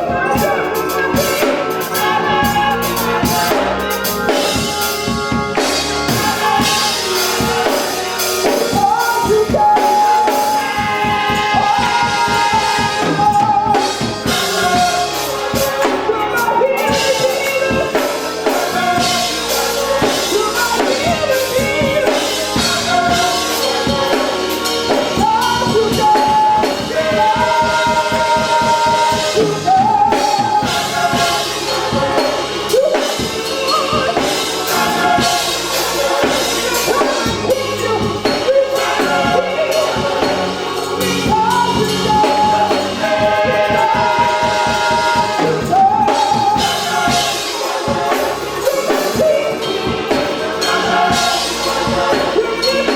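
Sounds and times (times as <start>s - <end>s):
drum kit: 0.0s - 52.9s
gospel singing: 0.0s - 52.9s.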